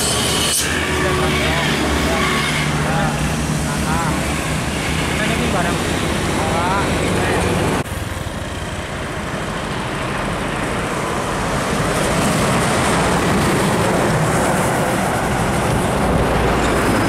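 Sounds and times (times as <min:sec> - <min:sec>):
truck diesel engine passing: 0:00.0 - 0:17.0.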